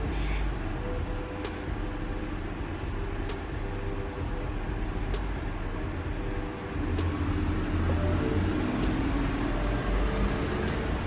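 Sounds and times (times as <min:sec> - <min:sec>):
bonnet dryer fan rumble: 0:00.0 - 0:11.0.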